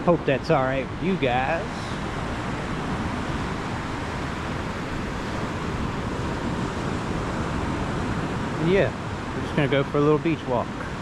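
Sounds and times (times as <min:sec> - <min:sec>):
wind rumble on microphone: 0:00.0 - 0:11.0
ocean surf breaking: 0:00.5 - 0:11.0.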